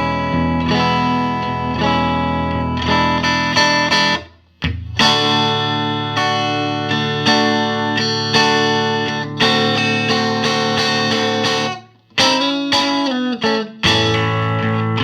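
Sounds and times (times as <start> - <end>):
electric guitar notes and chords: 0.0 - 15.0.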